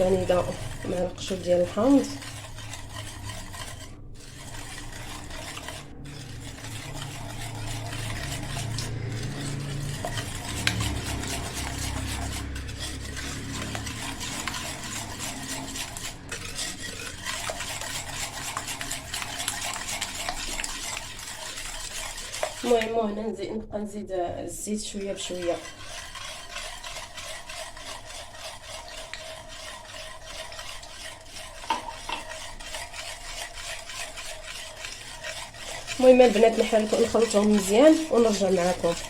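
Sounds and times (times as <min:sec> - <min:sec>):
mixing and scraping in bowl: 0:00.0 - 0:39.0.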